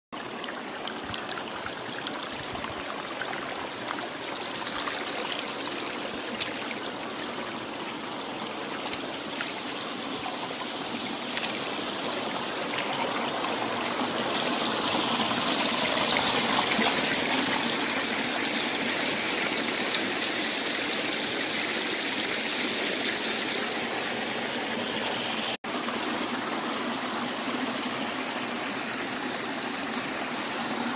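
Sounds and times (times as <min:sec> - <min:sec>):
stream water rushing: 0:00.2 - 0:30.9.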